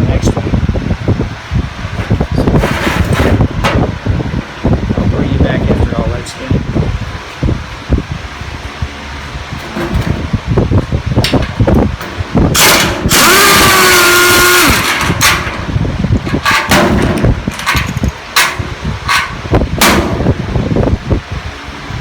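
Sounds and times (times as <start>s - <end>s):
fan running: 0.0s - 22.0s.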